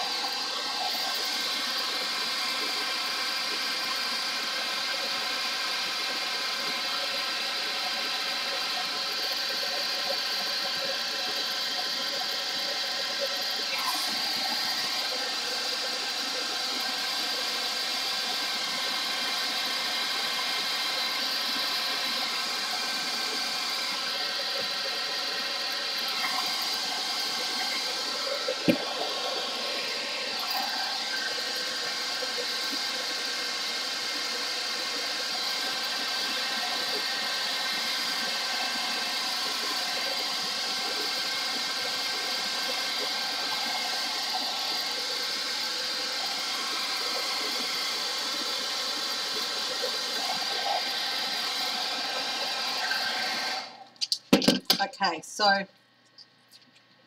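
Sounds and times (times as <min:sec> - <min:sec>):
hairdryer running: 0:00.0 - 0:55.6.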